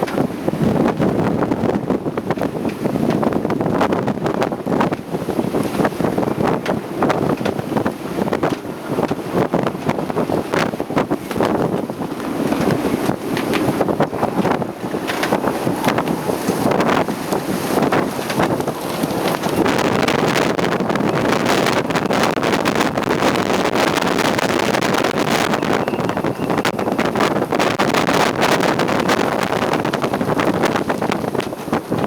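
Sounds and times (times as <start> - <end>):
strong wind buffeting microphone: 0.0 - 32.0.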